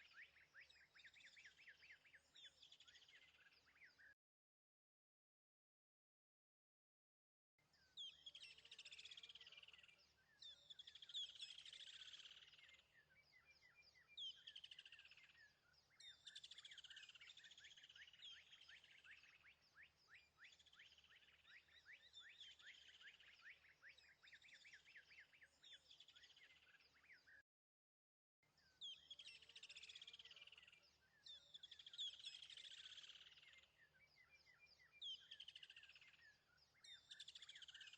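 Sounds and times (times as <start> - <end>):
faint birdsong chirps and trills: 0.0 - 4.2, 7.6 - 27.5, 28.4 - 37.9.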